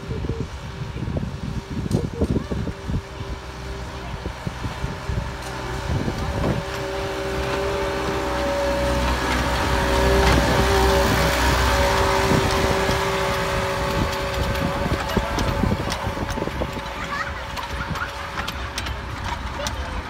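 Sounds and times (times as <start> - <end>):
miniature locomotive passing: 0.0 - 20.0.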